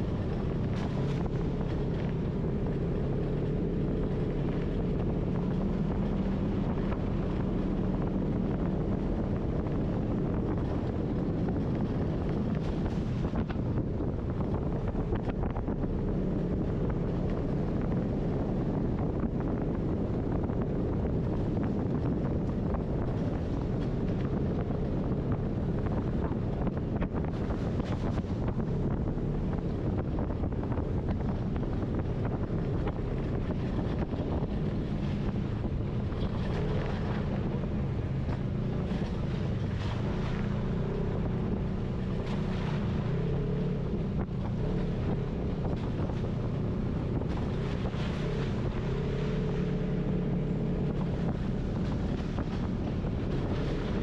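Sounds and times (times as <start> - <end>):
vehicle engine running: 0.0 - 54.0
wind buffeting microphone: 0.0 - 54.0.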